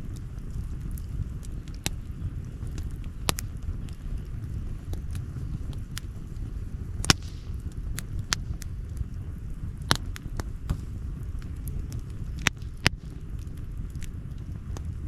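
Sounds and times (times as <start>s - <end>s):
burning wood popping: 0.0s - 15.0s
campfire crackling: 0.0s - 15.0s
low steady rumble: 0.0s - 15.0s.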